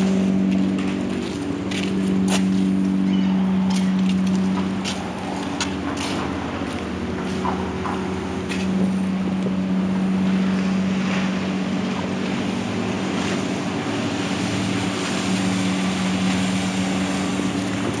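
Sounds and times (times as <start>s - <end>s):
boat engines droning: 0.0s - 18.0s.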